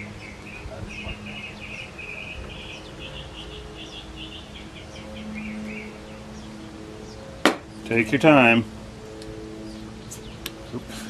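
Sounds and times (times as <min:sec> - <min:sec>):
bird singing trills: 0:00.0 - 0:11.0.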